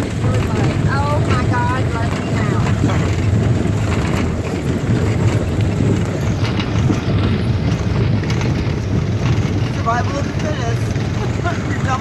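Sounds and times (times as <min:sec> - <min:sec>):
atv engine rumbling: 0:00.0 - 0:12.0.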